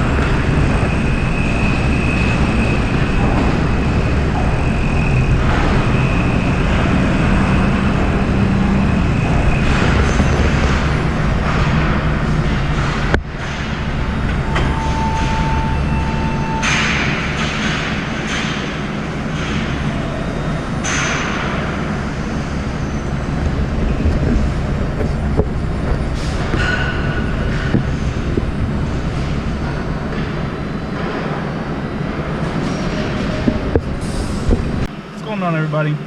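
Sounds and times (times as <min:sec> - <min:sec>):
vehicle rumbling: 0:00.0 - 0:35.2.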